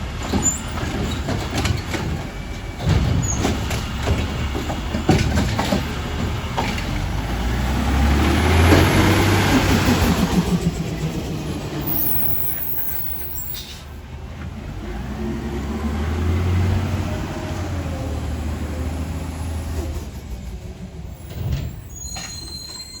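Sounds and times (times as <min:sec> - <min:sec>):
garbage truck engine running: 0:00.0 - 0:21.8.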